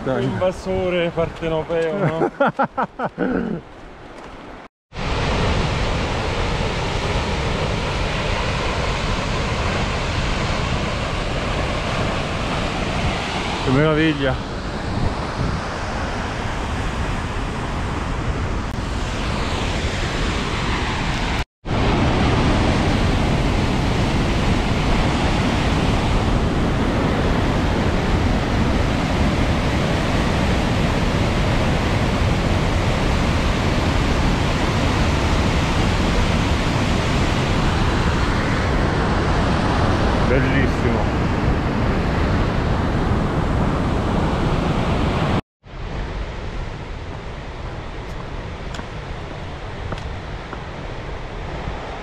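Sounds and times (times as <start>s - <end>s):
waterfall and torrent rushing: 0.0s - 52.0s.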